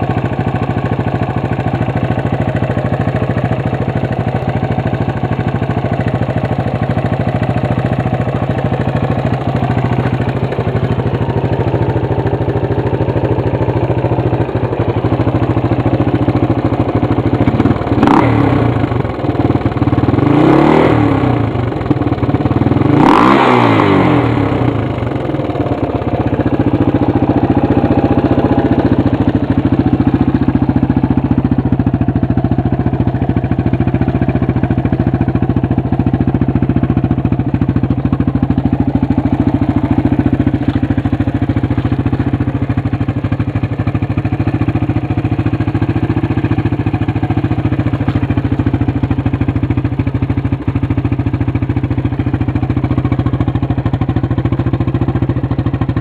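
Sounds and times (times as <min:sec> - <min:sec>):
quad bike engine idling and revving: 0:00.0 - 0:56.0.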